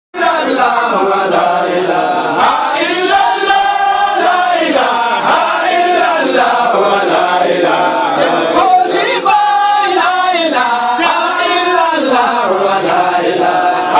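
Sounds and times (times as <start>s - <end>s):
men chanting together: 0.2s - 13.9s.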